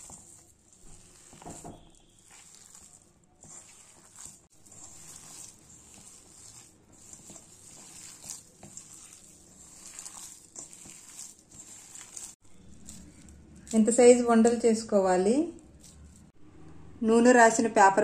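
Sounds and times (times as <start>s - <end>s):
hand kneading dough: 0.0s - 16.4s.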